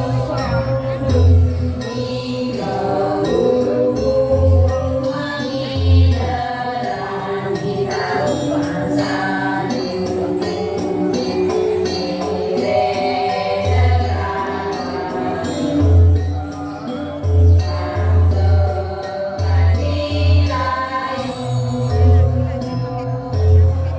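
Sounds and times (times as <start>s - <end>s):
group singing in unison: 0.0s - 23.1s
percussion accompaniment: 0.0s - 23.9s.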